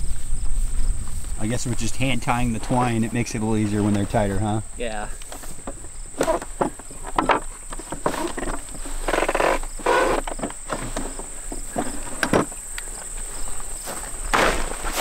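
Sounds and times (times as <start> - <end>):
high-pitched insect trill: 0.0 - 14.3.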